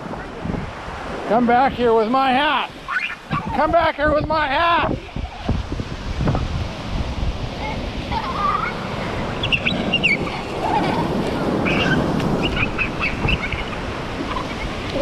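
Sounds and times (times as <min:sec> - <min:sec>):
surf washing up a beach: 0:00.0 - 0:15.0.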